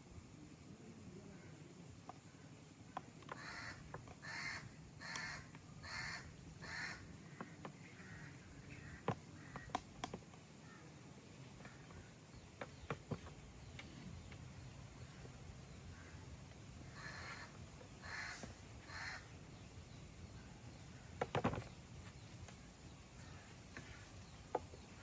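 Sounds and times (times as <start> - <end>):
bird calling: 2.1 - 25.0.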